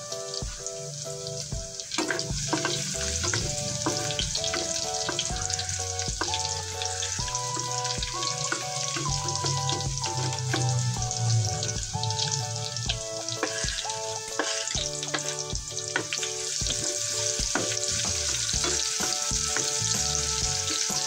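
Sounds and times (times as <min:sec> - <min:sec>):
garlic and onion sizzling in oil: 0:00.0 - 0:21.0
melodic background tune: 0:00.0 - 0:21.0
wooden spatula stirring: 0:01.9 - 0:20.0.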